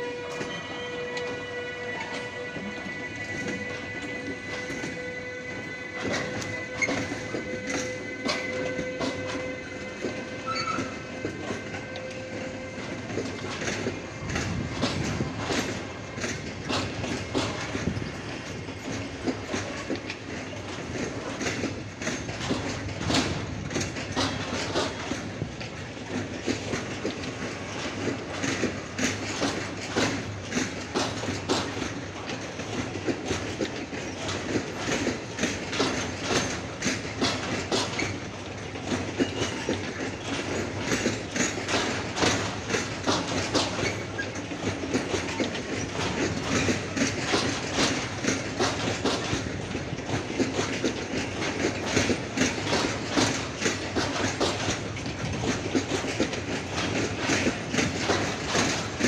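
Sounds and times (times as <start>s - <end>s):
freight train rolling past: 0.0s - 59.0s
steel wheels clattering on rails: 0.0s - 59.0s.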